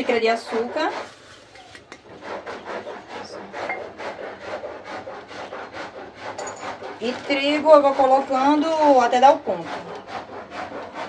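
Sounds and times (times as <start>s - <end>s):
rhythmic scraping in a bowl: 0.0s - 11.0s.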